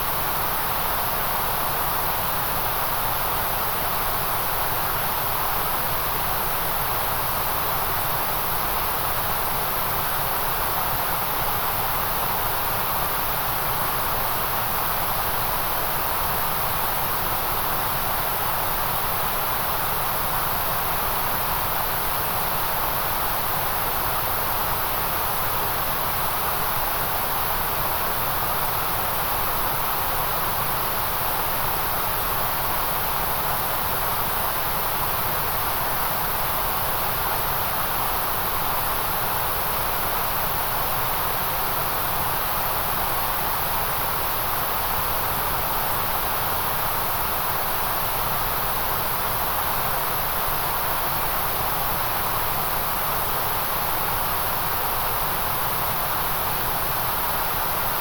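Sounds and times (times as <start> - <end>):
steady white noise hiss: 0.0 - 58.0.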